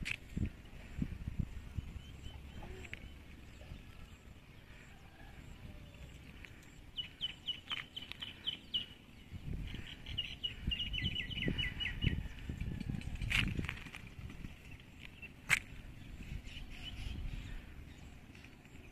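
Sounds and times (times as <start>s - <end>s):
low rumble on microphone: 0.0s - 18.9s.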